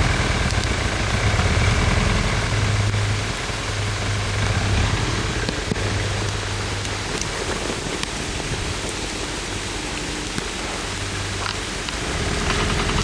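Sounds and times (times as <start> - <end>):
diesel engine idling with a knock: 0.0 - 13.0.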